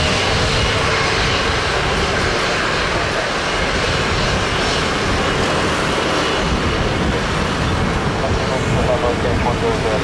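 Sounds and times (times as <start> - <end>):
jet engines at takeoff: 0.0 - 10.0.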